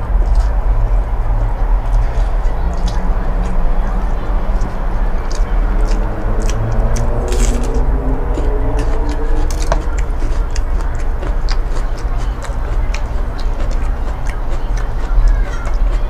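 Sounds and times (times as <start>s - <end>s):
mouth clicks and crunches: 0.0s - 16.0s
person chewing food: 0.0s - 16.0s
steady low hum: 0.0s - 16.0s.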